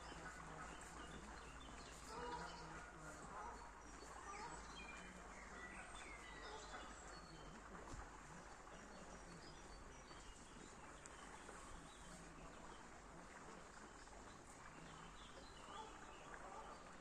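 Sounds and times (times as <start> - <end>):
songbird chirps and calls: 0.0 - 17.0.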